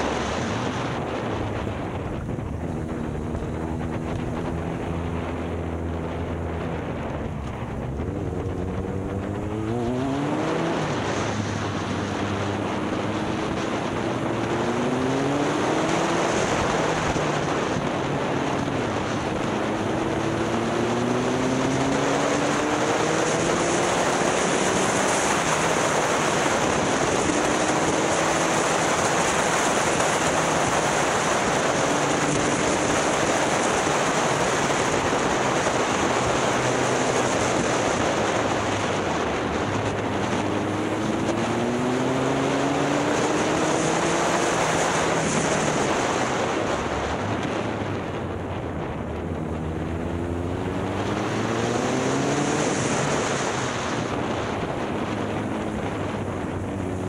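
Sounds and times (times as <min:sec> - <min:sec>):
motorcycle engine accelerating: 0:00.0 - 0:57.0
wind rushing on microphone: 0:00.0 - 0:57.0.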